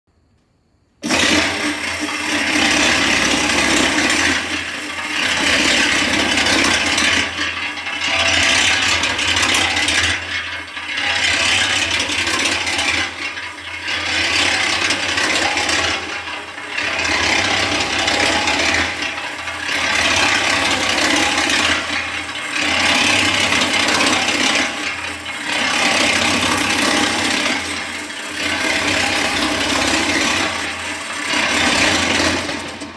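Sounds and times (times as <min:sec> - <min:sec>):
cement mixer motor hum: 0:01.0 - 0:32.9
mixer drum grinding: 0:01.0 - 0:32.9.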